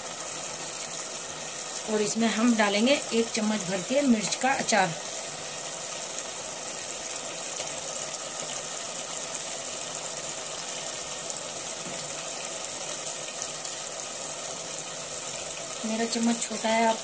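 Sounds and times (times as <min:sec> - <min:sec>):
masala sizzling in a pot: 0:00.0 - 0:17.0.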